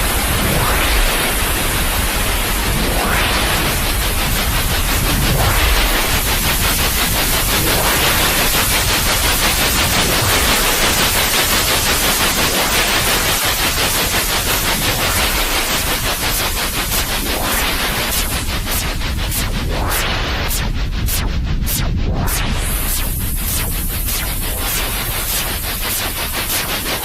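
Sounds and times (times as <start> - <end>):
fluttering white noise: 0.0 - 27.0.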